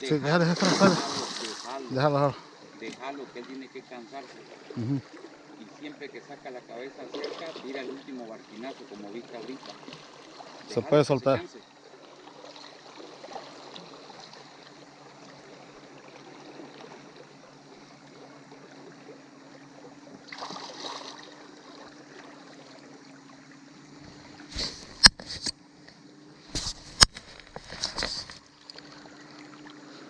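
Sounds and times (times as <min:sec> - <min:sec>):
faint low hum: 0:00.0 - 0:30.0
river current washing around boat: 0:00.0 - 0:30.0.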